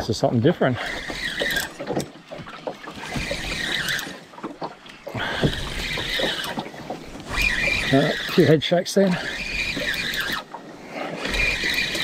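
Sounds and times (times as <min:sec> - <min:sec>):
fishing reel drag buzzing: 0:00.8 - 0:04.4, 0:05.0 - 0:12.0.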